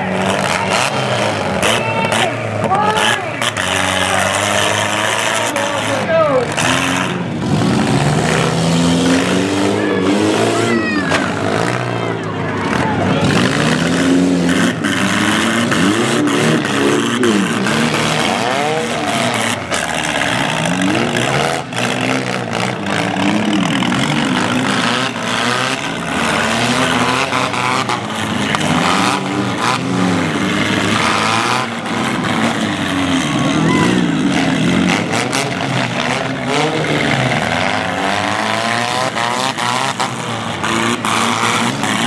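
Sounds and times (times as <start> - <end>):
car engines revving: 0.0 - 42.0
cars crashing: 0.0 - 42.0.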